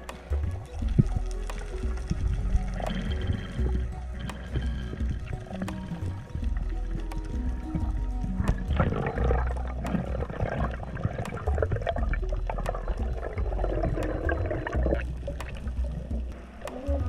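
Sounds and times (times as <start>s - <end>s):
water rushing underwater: 0.0s - 17.0s.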